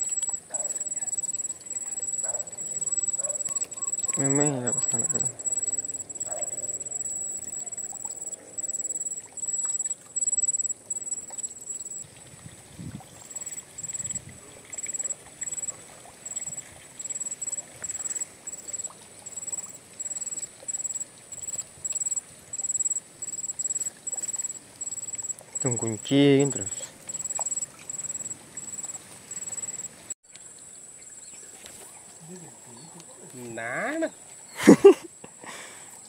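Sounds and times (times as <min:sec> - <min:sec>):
insect chirping: 0:00.0 - 0:35.7.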